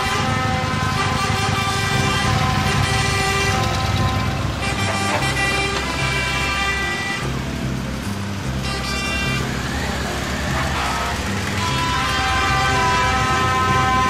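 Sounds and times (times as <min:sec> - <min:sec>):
background music: 0:00.0 - 0:14.0
truck air horns honking: 0:00.0 - 0:14.0
truck engines running: 0:00.0 - 0:14.0.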